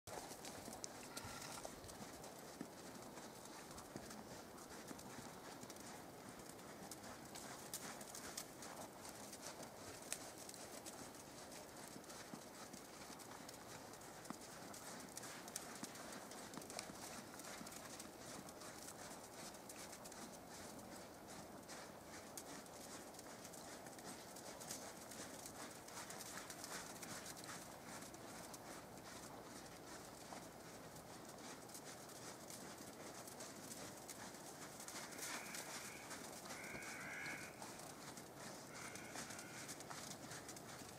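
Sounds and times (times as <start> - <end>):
horse hoofbeats on soft dirt: 0.1 - 40.9.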